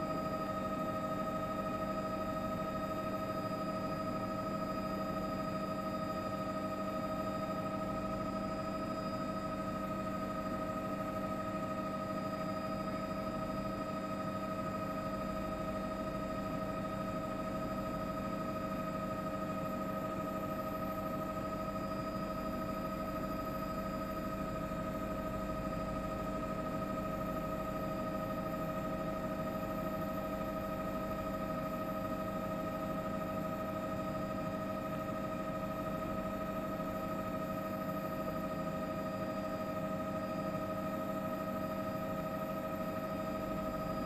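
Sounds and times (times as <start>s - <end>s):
helicopter engine and rotors droning: 0.0s - 44.0s.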